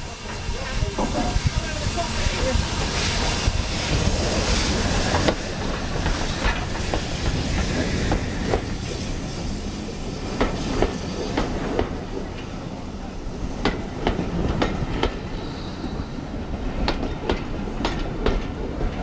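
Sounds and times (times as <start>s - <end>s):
steam hissing: 0.0s - 14.0s, 14.6s - 17.8s
train wheels clicking over rail joints: 0.2s - 12.5s, 13.6s - 15.2s, 16.7s - 19.0s.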